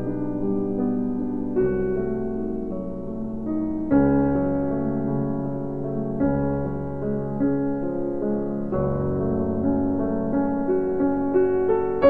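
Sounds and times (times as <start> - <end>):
keyboard melody over chords: 0.0 - 12.0.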